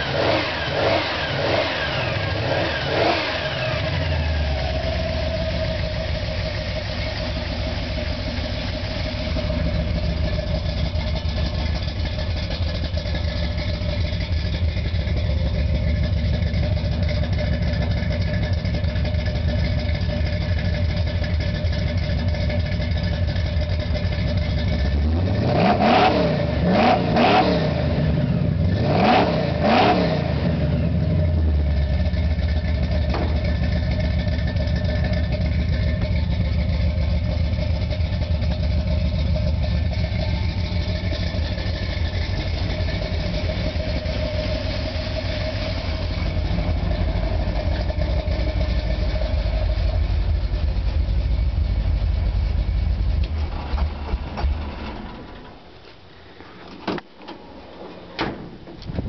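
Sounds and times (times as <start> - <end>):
truck engine idling and revving: 0.0 - 59.0.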